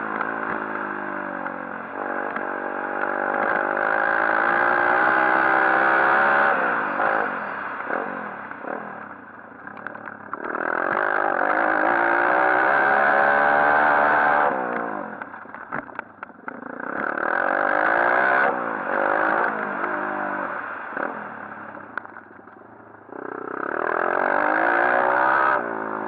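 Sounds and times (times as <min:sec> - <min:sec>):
motorbike engine revving: 0:00.0 - 0:26.0.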